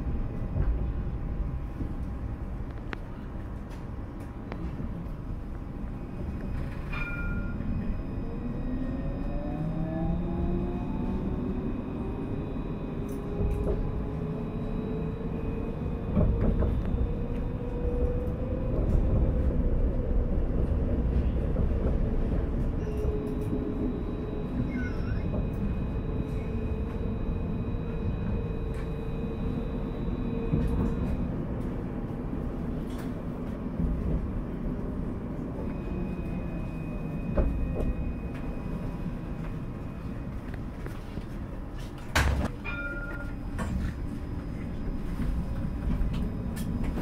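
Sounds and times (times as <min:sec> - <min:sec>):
tram wheels rumbling on track: 0:00.0 - 0:47.0.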